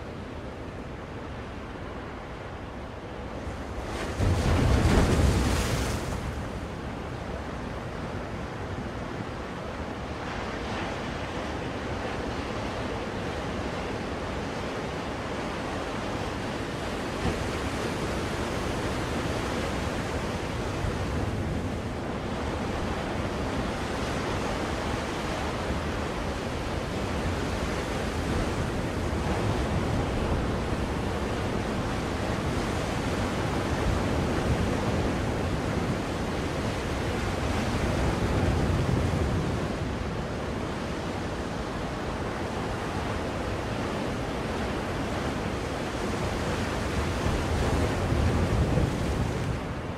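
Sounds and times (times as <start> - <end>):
ocean waves washing on shore: 0.0 - 49.9.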